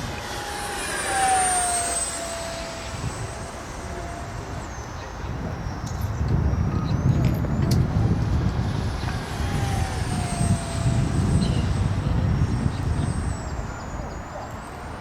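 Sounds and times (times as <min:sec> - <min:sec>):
rc jet ducted fan whining: 0:00.0 - 0:15.0
heavy low rumble: 0:01.0 - 0:14.9.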